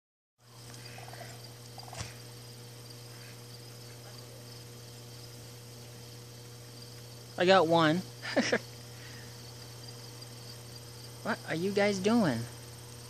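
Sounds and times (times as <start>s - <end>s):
insect chirring: 0.4s - 13.0s
low hum: 0.4s - 13.0s.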